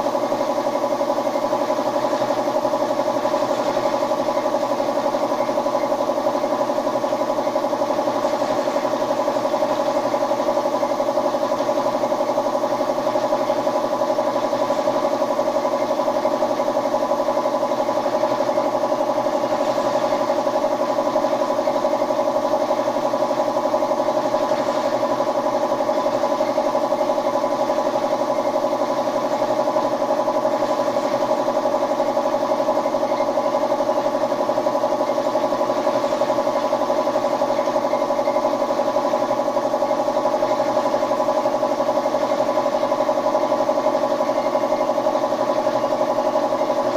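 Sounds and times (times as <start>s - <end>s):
motor humming steadily: 0.0s - 46.9s.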